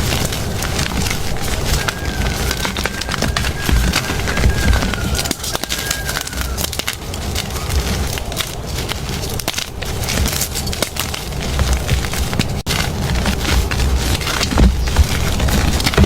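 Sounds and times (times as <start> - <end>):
chalk being crushed: 0.0 - 16.0.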